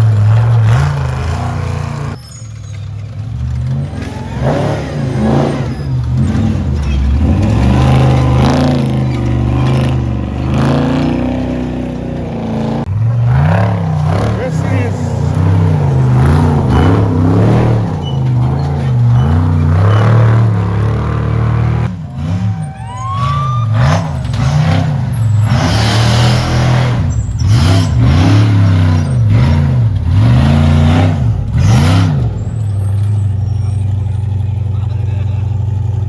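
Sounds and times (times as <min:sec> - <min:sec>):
race truck engines revving: 0:00.0 - 0:36.0
rush of engine and tyre noise: 0:00.0 - 0:36.0.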